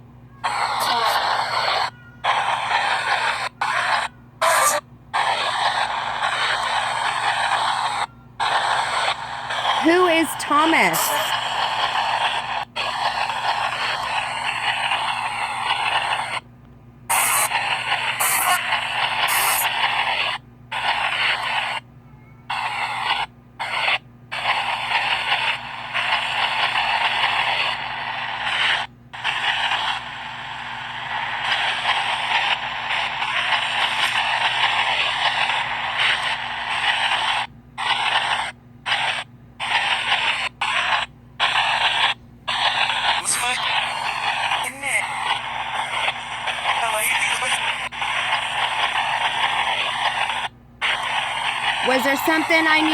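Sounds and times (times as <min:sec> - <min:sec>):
radio static hiss: 0:00.4 - 0:16.5, 0:17.1 - 0:21.8, 0:22.5 - 0:52.9.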